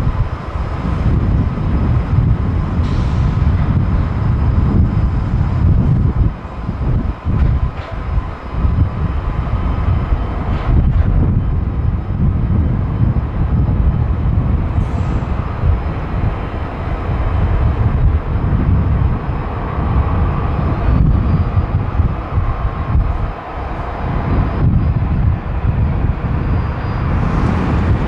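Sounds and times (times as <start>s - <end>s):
faint high engine whine: 0.0s - 28.0s
jet engines low rumble: 0.0s - 28.0s.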